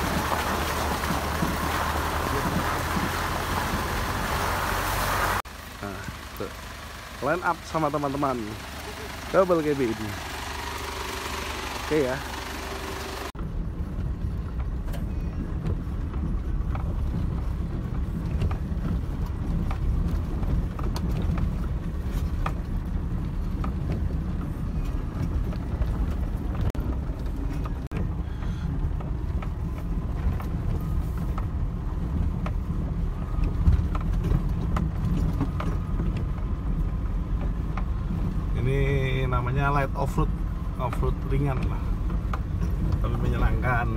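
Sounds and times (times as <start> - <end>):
engine and tyre rumble: 0.0 - 43.9.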